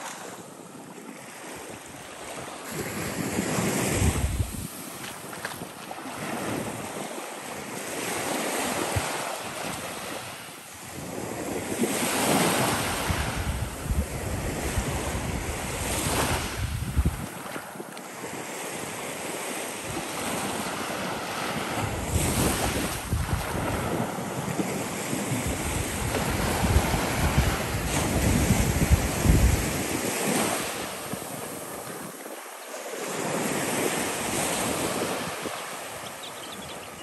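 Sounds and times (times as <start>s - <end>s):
surf washing up a sand beach: 0.0s - 37.0s
wind rumbling on microphone: 1.7s - 7.0s, 8.1s - 17.8s, 19.8s - 32.4s, 33.0s - 37.0s.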